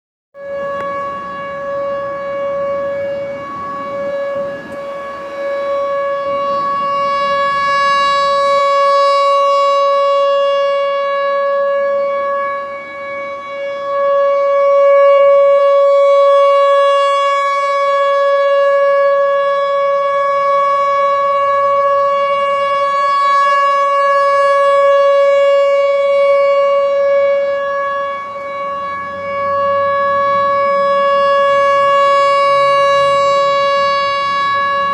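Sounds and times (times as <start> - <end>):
tornado warning siren steady tone: 0.3 - 34.9.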